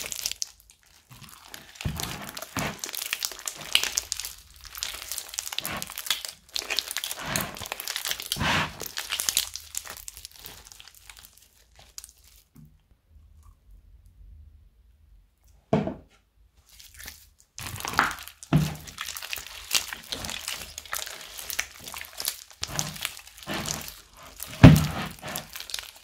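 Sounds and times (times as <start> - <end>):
slime squishing and crackling: 0.0 - 12.6, 16.6 - 26.0.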